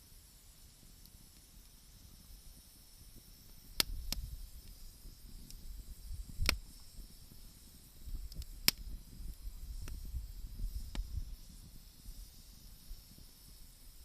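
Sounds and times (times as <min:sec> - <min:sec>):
faint hiss: 0:00.0 - 0:14.0
wood fire crackling pops: 0:00.0 - 0:14.0.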